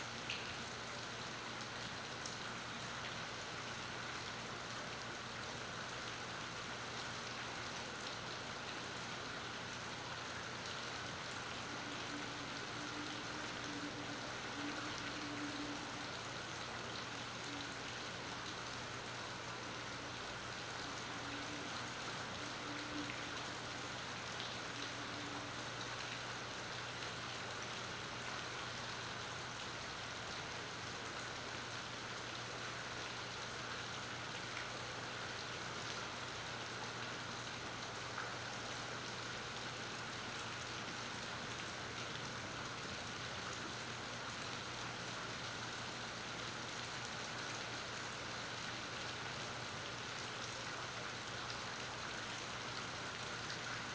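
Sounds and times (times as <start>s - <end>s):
rain falling on water: 0.0s - 53.9s.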